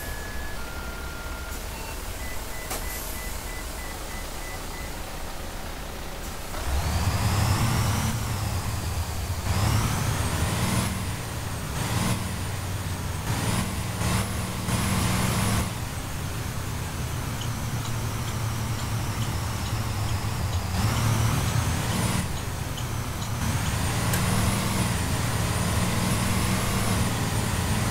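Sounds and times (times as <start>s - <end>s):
bus engine whining: 0.0s - 27.9s.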